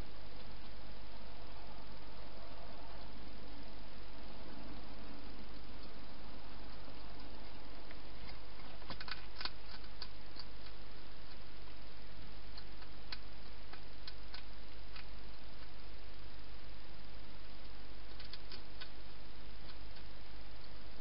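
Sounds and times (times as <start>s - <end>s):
steady hiss: 0.0s - 21.0s
hedgehog crunching food: 3.0s - 21.0s.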